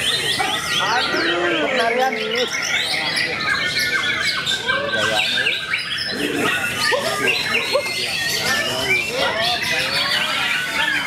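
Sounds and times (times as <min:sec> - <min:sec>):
chorus of songbirds: 0:00.0 - 0:11.0
songbird singing: 0:00.0 - 0:11.0.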